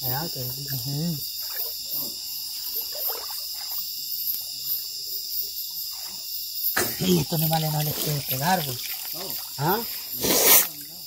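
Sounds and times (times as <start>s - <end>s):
night insects chorusing: 0.0s - 11.0s.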